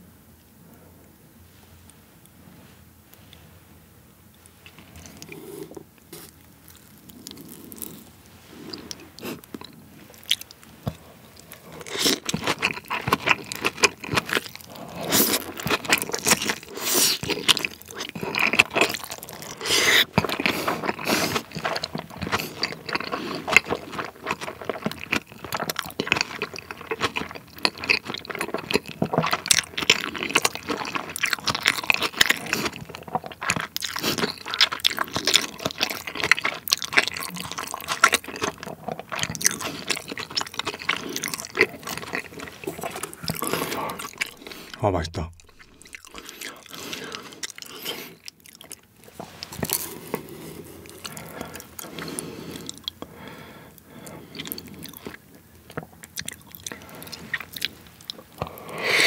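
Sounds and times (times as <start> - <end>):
wet chewing and biting: 4.4 - 53.1, 53.7 - 59.0.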